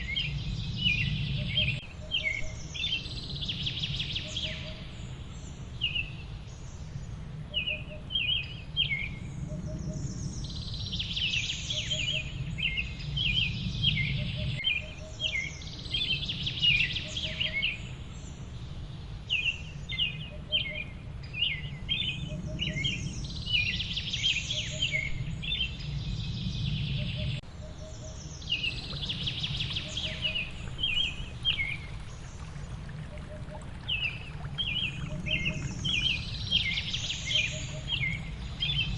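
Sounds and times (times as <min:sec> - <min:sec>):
low background hiss: 0:00.0 - 0:38.9
songbirds chirping and singing: 0:00.0 - 0:38.9.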